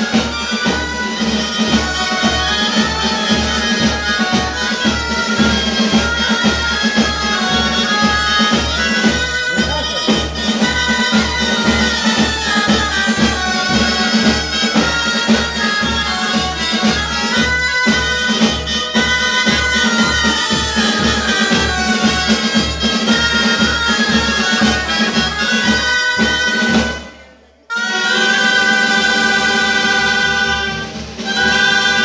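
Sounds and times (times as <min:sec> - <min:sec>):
shawms playing a melody: 0:00.0 - 0:32.0
snare and bass drum march beat: 0:00.0 - 0:32.0.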